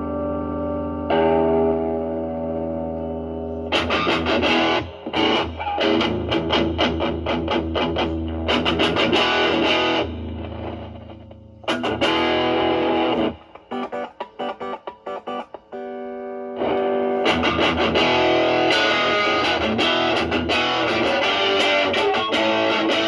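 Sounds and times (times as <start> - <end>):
distorted electric guitar chords: 0.0 - 23.0.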